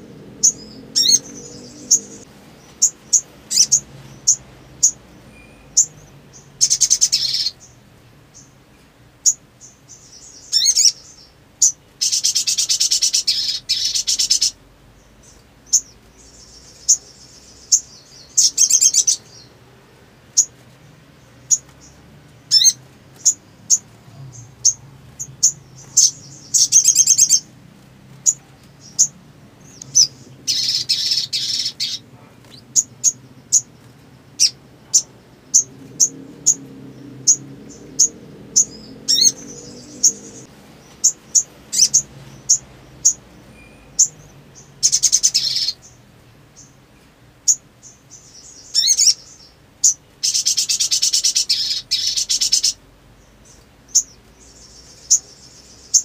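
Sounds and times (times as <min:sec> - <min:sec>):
sunbird chirps and trills: 0:00.0 - 0:56.0.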